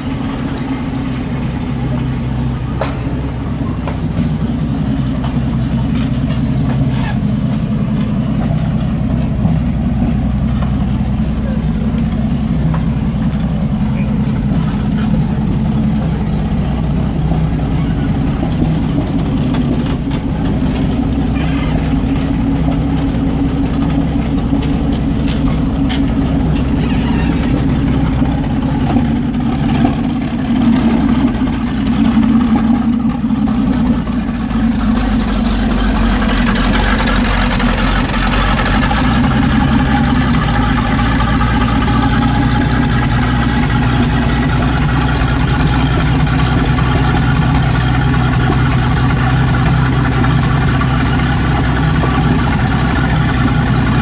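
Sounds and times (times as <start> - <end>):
tank engine running: 0.0 - 54.0
track clatter: 0.0 - 54.0.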